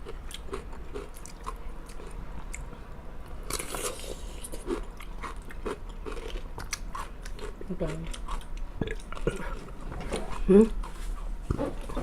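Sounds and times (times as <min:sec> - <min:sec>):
wet crunching of pickle chewing: 0:00.0 - 0:10.4.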